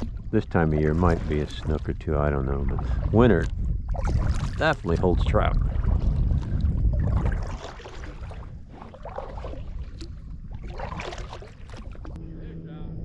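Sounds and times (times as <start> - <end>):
kayak moving on water: 0.0 - 12.6.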